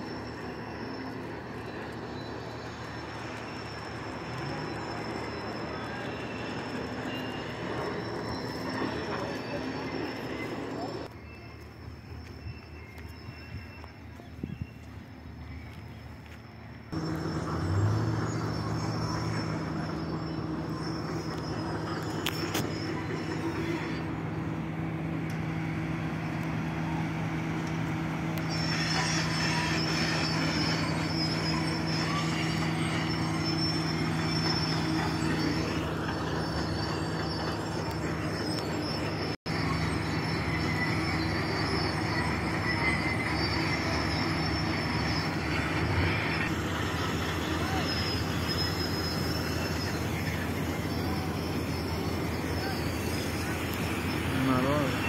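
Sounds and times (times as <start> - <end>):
thin high whine: 0.0 - 55.0.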